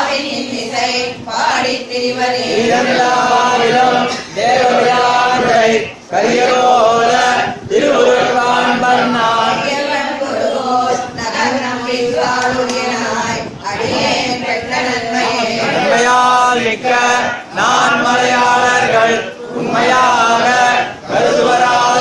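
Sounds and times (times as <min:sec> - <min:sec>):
men chanting a hymn: 0:00.0 - 0:22.0.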